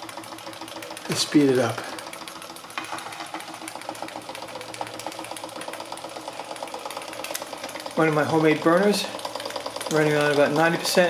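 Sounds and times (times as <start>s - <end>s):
toy steam engine clicking: 0.0s - 11.0s.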